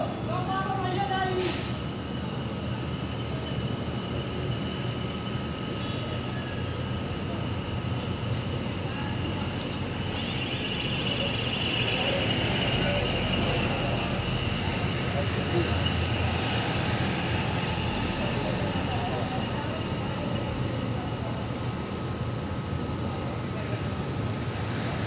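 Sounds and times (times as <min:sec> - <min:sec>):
construction machinery rumble: 0:00.0 - 0:25.0
crickets chirping: 0:00.0 - 0:25.0.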